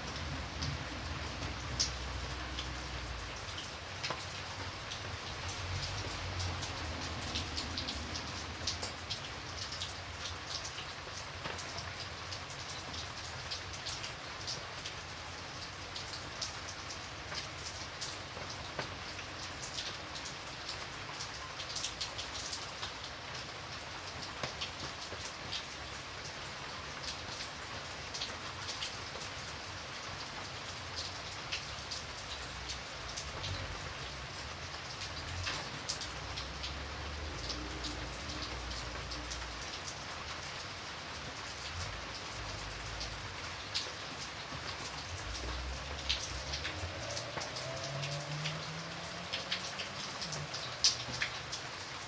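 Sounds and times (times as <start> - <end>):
rain drops ticking on a surface: 0.0 - 52.0.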